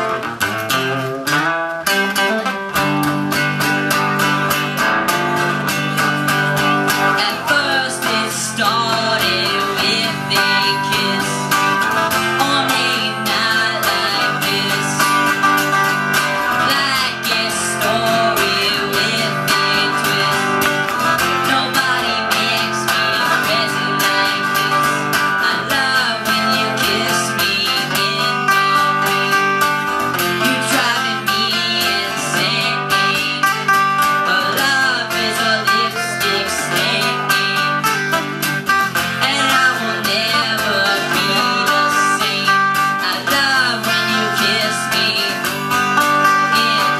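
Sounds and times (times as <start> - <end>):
acoustic guitar strumming: 0.0 - 46.9
second guitar playing: 0.0 - 46.9.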